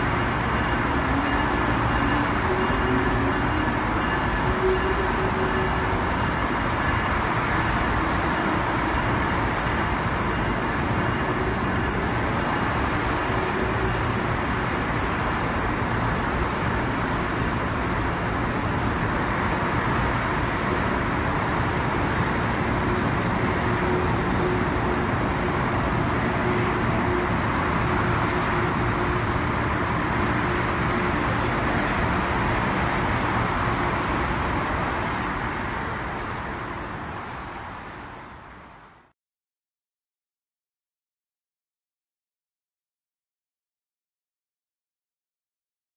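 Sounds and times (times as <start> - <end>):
train wheels rolling on rails: 0.0 - 39.0.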